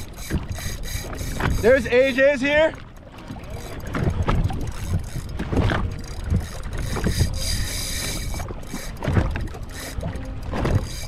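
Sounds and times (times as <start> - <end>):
wind on microphone: 0.0 - 2.7, 3.3 - 11.0
water slapping against hull: 0.0 - 11.0.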